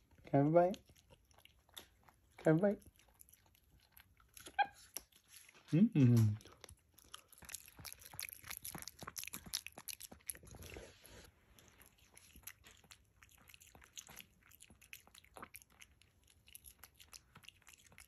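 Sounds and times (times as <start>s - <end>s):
monkey chewing fruit: 0.0s - 18.0s.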